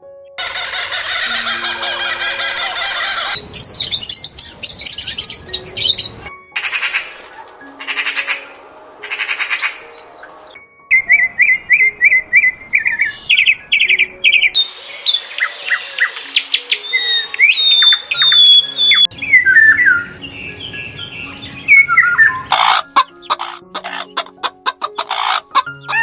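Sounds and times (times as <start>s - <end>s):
birds chirping and whistling: 0.3s - 24.4s
harsh rasping bird calls: 0.4s - 10.4s, 11.0s - 19.1s, 21.1s - 26.0s.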